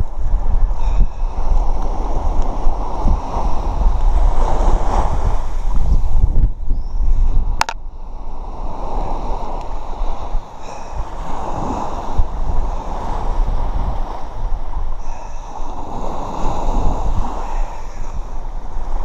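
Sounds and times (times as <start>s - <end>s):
surf washing up the beach: 0.0s - 19.0s
wind on the microphone: 0.0s - 19.0s.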